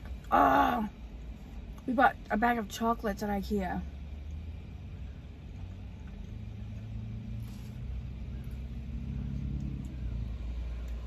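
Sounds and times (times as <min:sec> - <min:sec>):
pitched hum: 0:00.0 - 0:11.0
vehicle engine rumble: 0:00.0 - 0:11.0.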